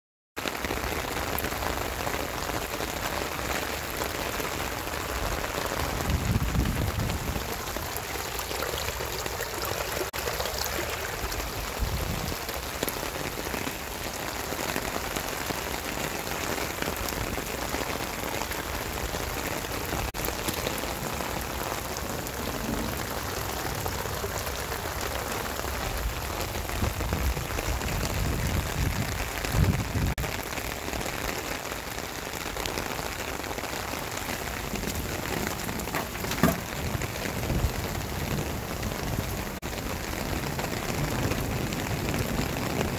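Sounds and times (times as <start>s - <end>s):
steady rain hiss: 0.4s - 42.9s.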